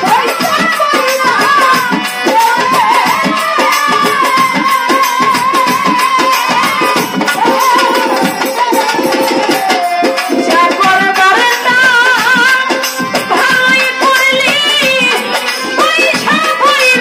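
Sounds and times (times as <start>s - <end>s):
hand drum beat: 0.0s - 17.0s
woman singing: 0.0s - 17.0s.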